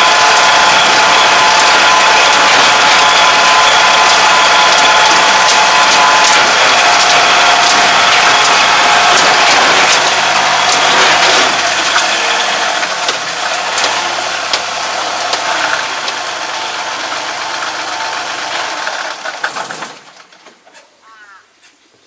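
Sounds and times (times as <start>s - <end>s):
tractor diesel engine clattering: 0.0s - 20.8s.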